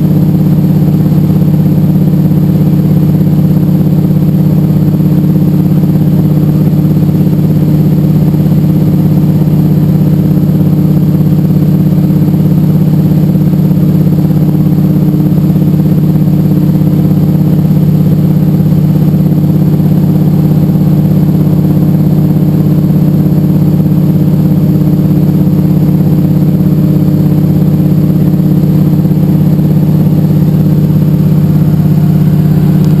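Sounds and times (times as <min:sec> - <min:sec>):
aircraft engine and propeller droning: 0:00.0 - 0:33.0.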